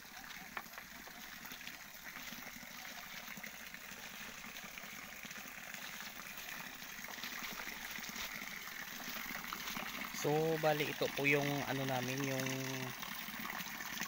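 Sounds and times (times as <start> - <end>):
water trickling in a stream: 0.0 - 14.0.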